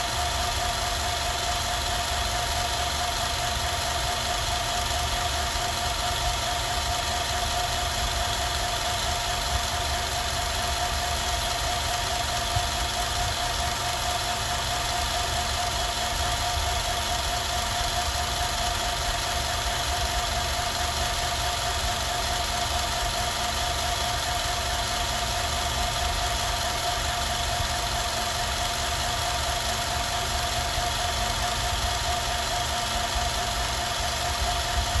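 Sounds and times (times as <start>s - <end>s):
film projector humming: 0.0s - 35.0s.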